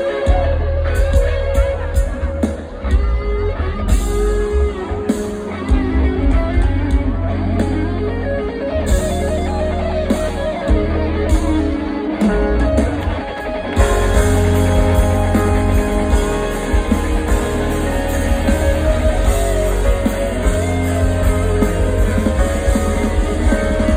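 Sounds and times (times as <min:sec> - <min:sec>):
guitar: 0:00.0 - 0:23.9
steady bass: 0:00.3 - 0:05.1, 0:05.7 - 0:12.8, 0:13.8 - 0:23.9.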